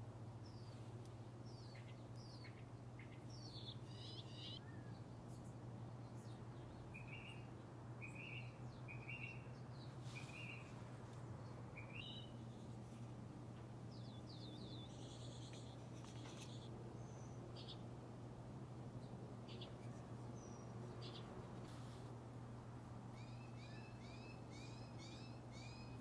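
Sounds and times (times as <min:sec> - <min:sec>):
steady low hum: 0:00.0 - 0:26.0
birds chirping: 0:00.4 - 0:18.0, 0:18.9 - 0:26.0.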